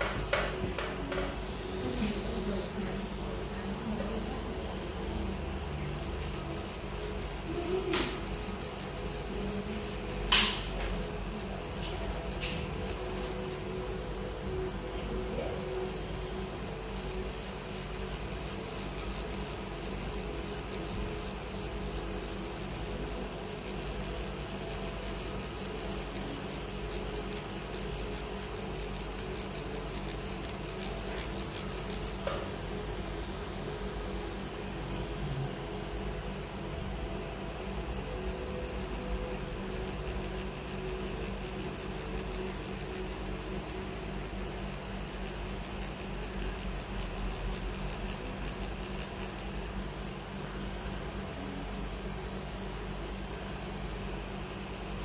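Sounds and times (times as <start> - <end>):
tattoo pen buzzing: 0.0 - 55.0.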